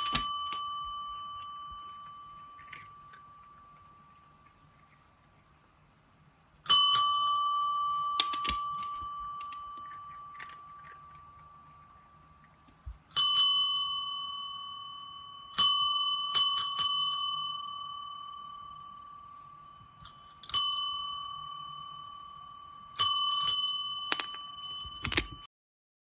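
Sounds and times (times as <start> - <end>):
small metal bell ringing: 0.0 - 4.4, 6.7 - 12.4, 13.1 - 25.5.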